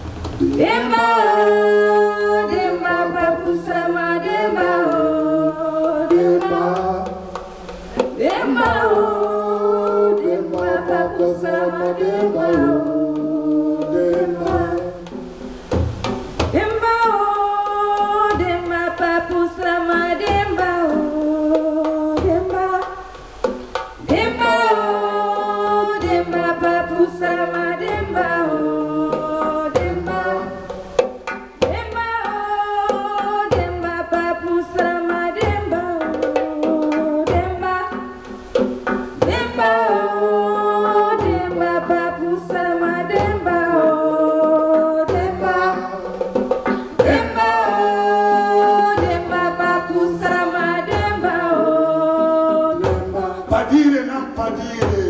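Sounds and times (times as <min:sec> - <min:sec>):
hand drums beating: 0:00.0 - 0:55.0
voices singing a chant: 0:00.4 - 0:15.2, 0:16.5 - 0:23.1, 0:24.0 - 0:38.3, 0:39.1 - 0:55.0.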